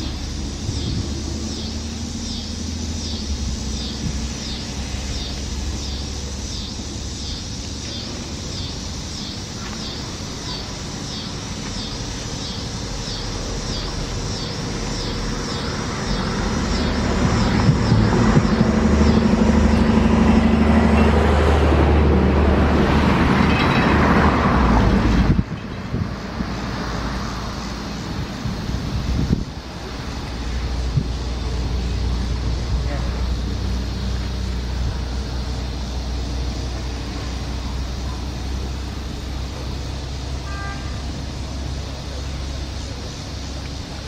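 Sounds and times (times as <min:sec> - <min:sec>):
motor vehicle running: 0:00.0 - 0:44.0.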